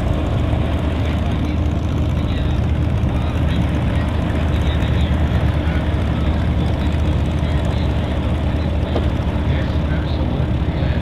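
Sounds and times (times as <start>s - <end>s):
biplane radial engine taxiing: 0.0s - 11.0s.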